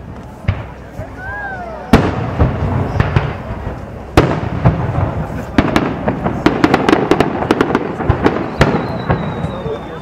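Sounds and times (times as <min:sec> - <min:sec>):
firework crackling pops: 0:00.0 - 0:10.0.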